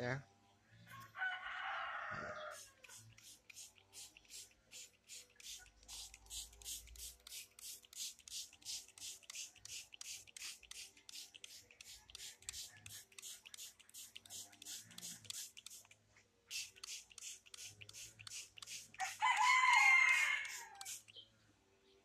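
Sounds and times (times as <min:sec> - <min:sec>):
spray bottle hissing sprays: 0:02.5 - 0:21.2.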